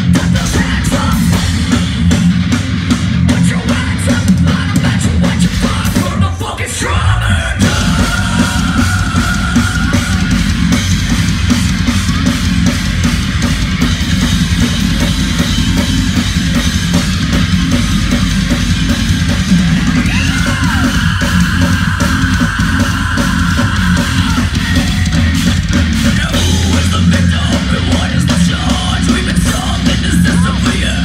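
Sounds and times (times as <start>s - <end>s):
fast drumming: 0.0s - 6.9s, 7.5s - 31.0s
heavy metal band playing live: 0.0s - 31.0s.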